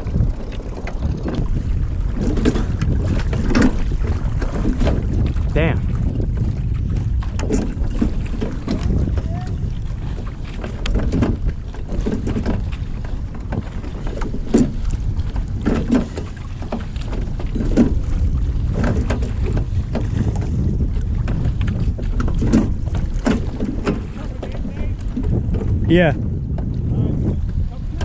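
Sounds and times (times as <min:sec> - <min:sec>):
oars knocking and splashing: 0:00.0 - 0:28.0
wind rumbling on microphone: 0:00.0 - 0:28.0.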